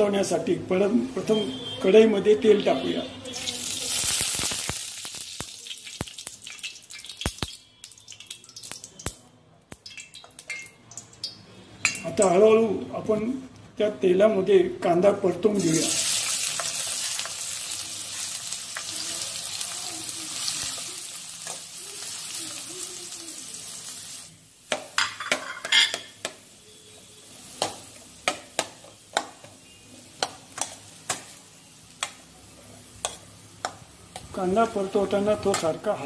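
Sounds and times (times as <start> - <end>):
onions sizzling in hot oil: 0.0 - 9.2, 15.5 - 36.0.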